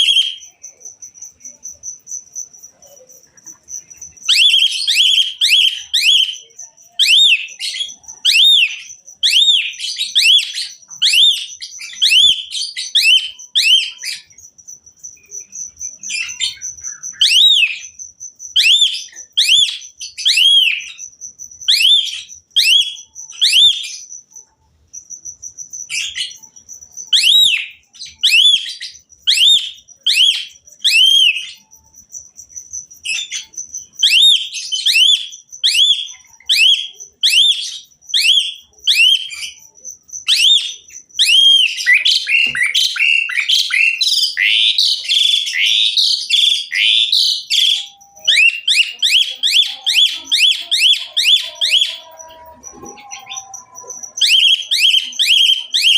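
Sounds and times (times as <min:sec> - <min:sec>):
bird whistled song: 0:00.0 - 0:00.6, 0:04.2 - 0:14.4, 0:15.1 - 0:24.2, 0:25.3 - 0:32.0, 0:32.8 - 0:55.9.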